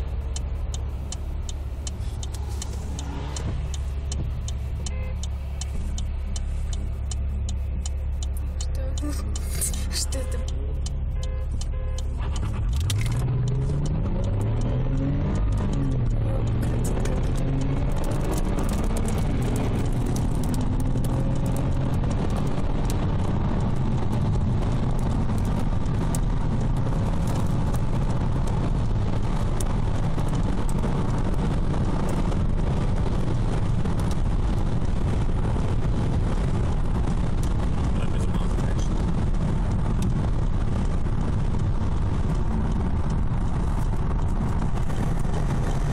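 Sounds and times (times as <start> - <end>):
car engine accelerating: 0.0 - 45.9
road and wind noise: 0.0 - 45.9.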